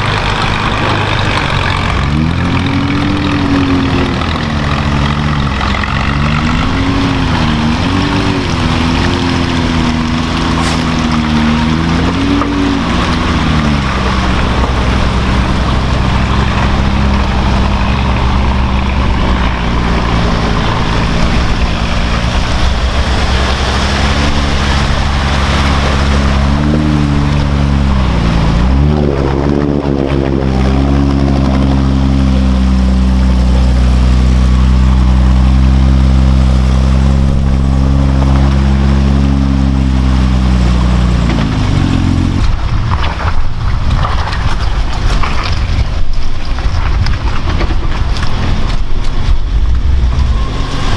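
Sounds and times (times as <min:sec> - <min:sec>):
off-road truck engine revving: 0:00.0 - 0:50.9.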